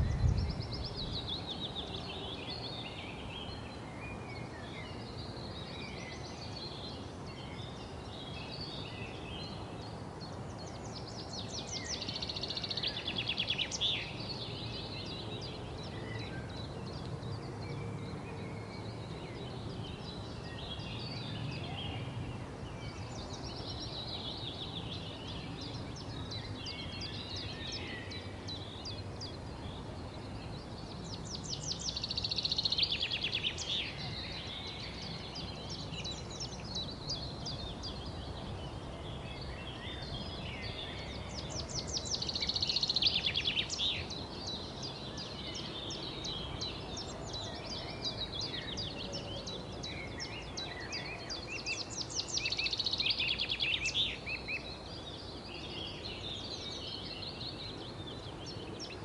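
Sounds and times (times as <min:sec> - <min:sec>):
songbirds twittering: 0:00.0 - 0:59.0
steady low background noise: 0:00.0 - 0:59.0.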